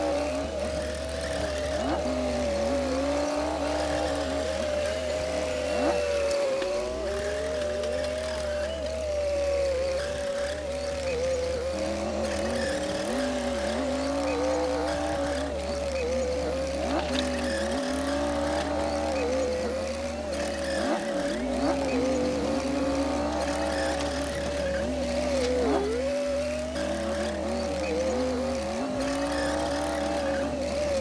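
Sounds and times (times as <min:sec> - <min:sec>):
bulldozer engine whine: 0:00.0 - 0:31.0.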